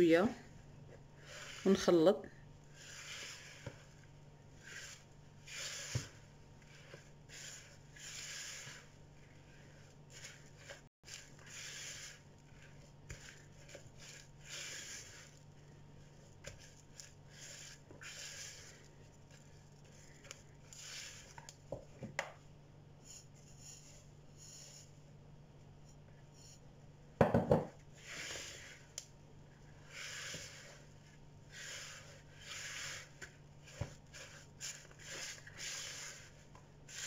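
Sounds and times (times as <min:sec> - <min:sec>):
spatula scraping dough in bowl: 0:00.4 - 0:21.8, 0:27.9 - 0:37.0.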